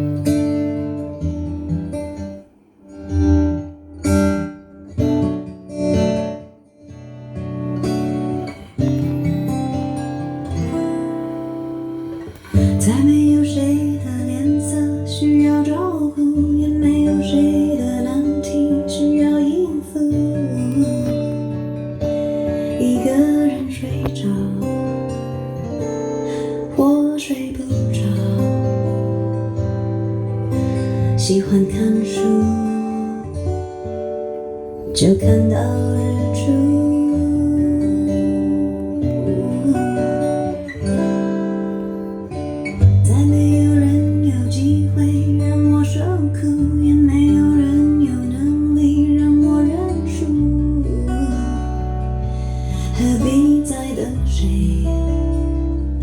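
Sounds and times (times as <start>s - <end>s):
acoustic guitar pop song over loudspeakers: 0.0s - 56.0s.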